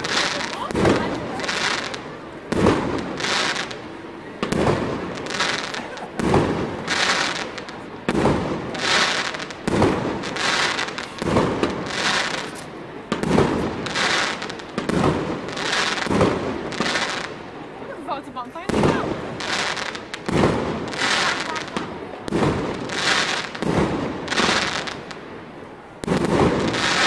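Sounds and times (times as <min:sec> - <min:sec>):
firework crackling: 0:00.0 - 0:27.0.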